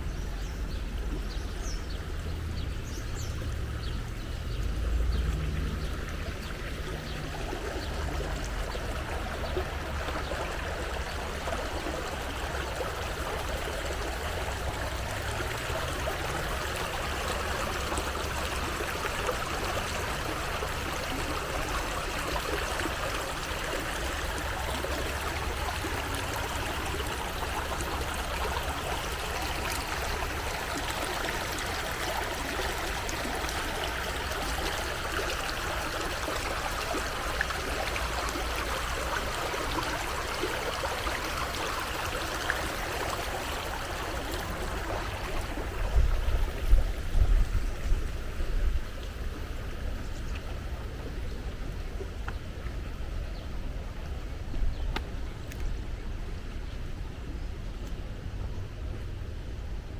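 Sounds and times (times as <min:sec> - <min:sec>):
brook flowing over stones: 0:00.0 - 0:59.9.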